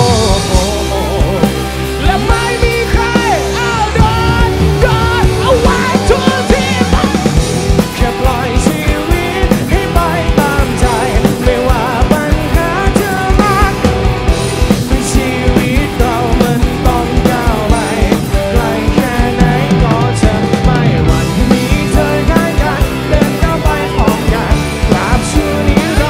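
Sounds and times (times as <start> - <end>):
person singing: 0.0 - 14.0, 14.7 - 26.0
drum kit beat: 0.0 - 26.0
live rock band playing: 0.0 - 26.0.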